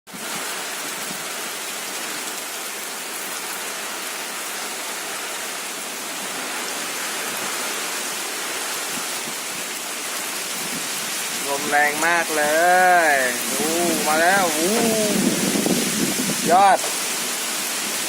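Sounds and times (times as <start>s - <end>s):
rain: 0.1s - 18.0s
strong wind through palm fronds: 0.1s - 18.0s.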